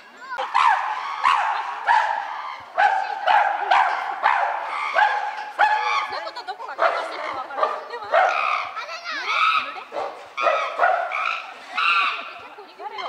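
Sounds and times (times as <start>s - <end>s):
chimpanzee barking calls: 0.4s - 13.0s.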